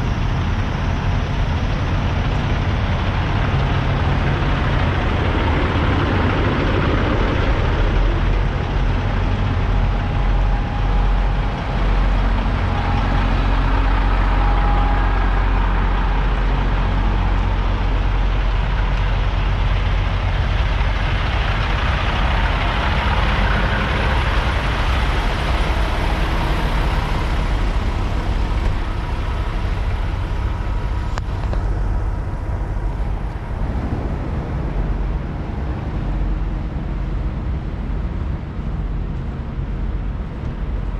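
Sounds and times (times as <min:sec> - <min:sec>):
road vehicle noise: 0:00.0 - 0:40.9
trucks low rumble: 0:00.0 - 0:40.9.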